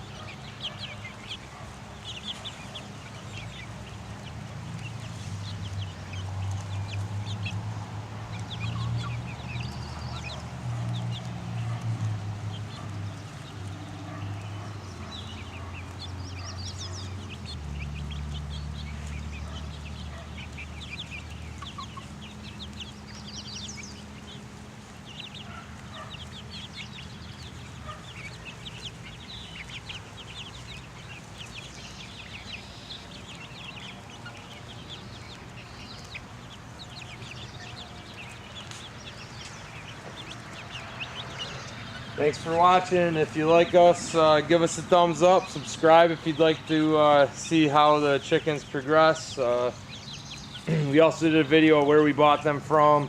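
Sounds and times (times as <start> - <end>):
chicks peeping and cheeping: 0.0 - 53.0.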